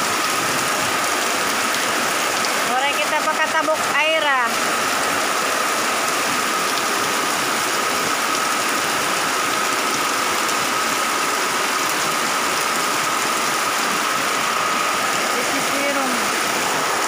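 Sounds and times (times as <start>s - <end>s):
heavy rain hissing: 0.0s - 17.0s
runoff pouring off roof: 0.0s - 17.0s.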